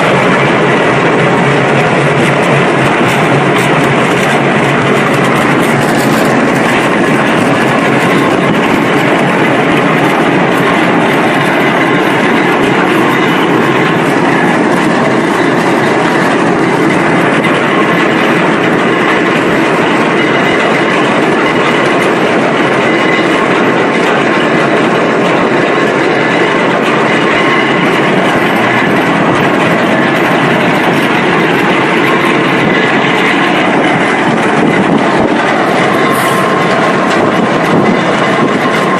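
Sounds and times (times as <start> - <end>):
drilling rig machinery noise: 0.0 - 38.9.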